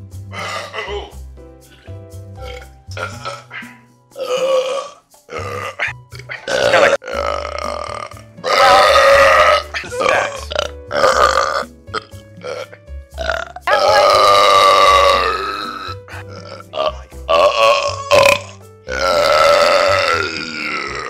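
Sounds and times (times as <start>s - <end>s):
background music: 0.0s - 21.0s
loud drawn-out burps: 0.3s - 1.1s, 2.4s - 3.6s, 4.2s - 21.0s.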